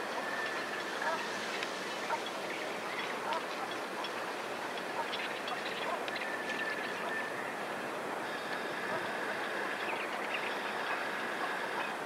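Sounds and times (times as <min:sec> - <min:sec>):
distant bird calls: 0:00.0 - 0:12.0
outdoor background rush: 0:00.0 - 0:12.0.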